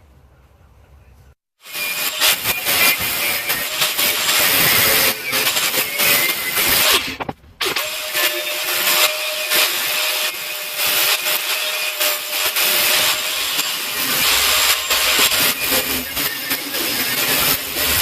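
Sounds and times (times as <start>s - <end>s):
power tool running: 1.6s - 18.0s.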